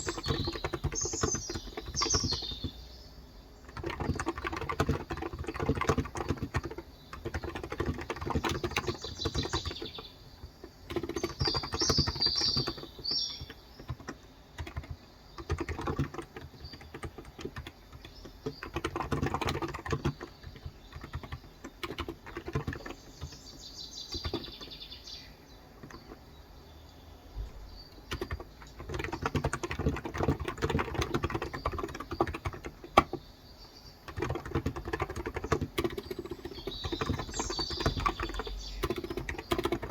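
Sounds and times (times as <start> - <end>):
fast keyboard typing: 0.0 - 2.9, 3.6 - 24.9, 25.7 - 26.3, 27.9 - 33.3, 34.0 - 39.9
birds chirping: 0.0 - 39.9.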